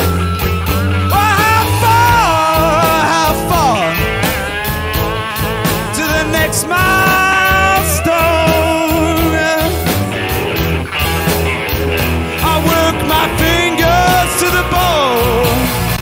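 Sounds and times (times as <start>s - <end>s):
blues band playing: 0.0s - 16.0s.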